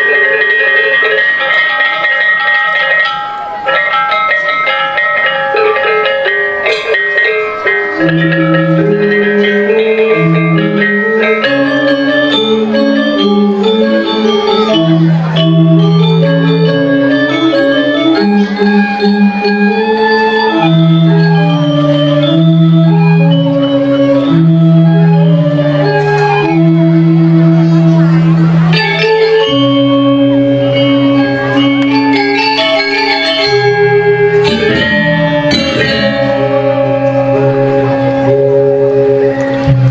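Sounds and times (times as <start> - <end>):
gamelan ensemble playing: 0.0 - 39.9.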